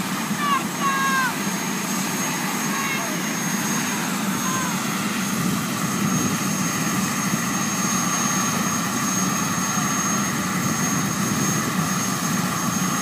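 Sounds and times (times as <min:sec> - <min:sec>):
helicopter turbine engine running: 0:00.0 - 0:13.0
high constant whine: 0:00.0 - 0:13.0.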